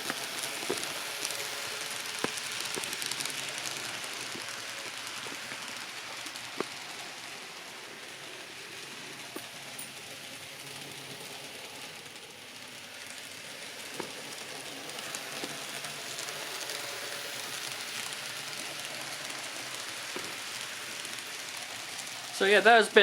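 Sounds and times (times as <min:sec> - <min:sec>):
model locomotive whirring: 0:00.0 - 0:23.0
wheels clicking on rails: 0:00.0 - 0:23.0.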